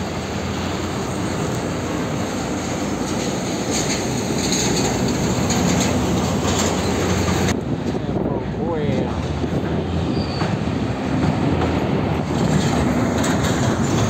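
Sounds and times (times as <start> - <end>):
diesel trucks rumbling past: 0.0 - 14.0
trailer rattling: 0.0 - 14.0.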